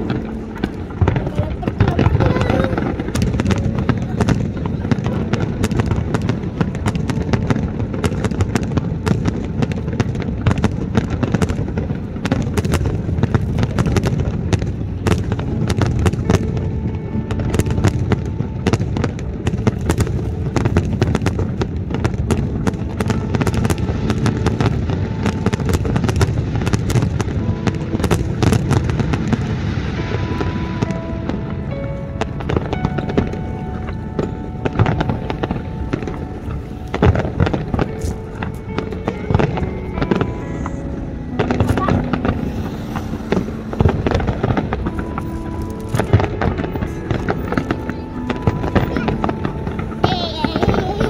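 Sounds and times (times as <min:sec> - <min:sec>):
fireworks bangs and crackles: 0:00.0 - 0:51.0.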